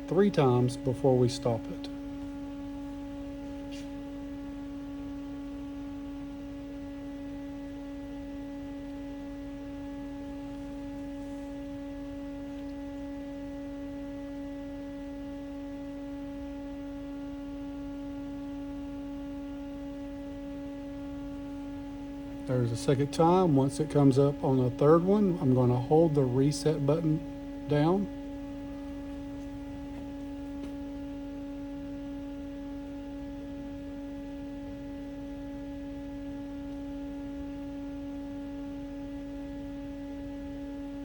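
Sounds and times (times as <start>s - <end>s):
machine humming: 0.0s - 41.0s.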